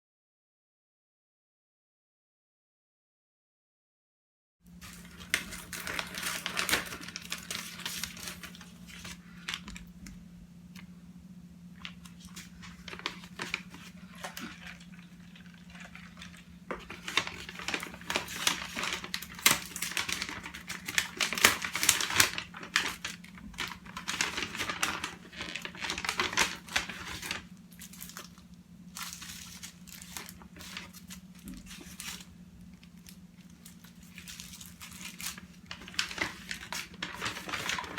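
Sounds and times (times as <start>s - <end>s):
packaging crinkling and rustling: 4.7s - 10.2s, 11.8s - 37.9s
steady low hum: 4.7s - 37.9s
packaging tearing: 4.8s - 9.9s, 11.8s - 37.9s.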